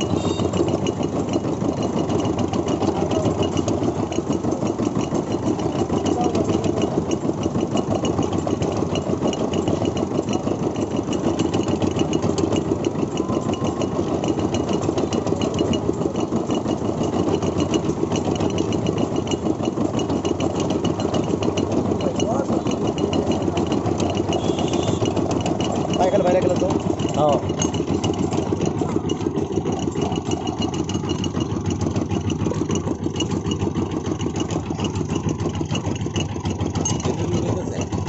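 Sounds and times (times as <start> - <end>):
juice machine engine running: 0.0 - 38.0
rollers crushing stalks: 0.0 - 38.0.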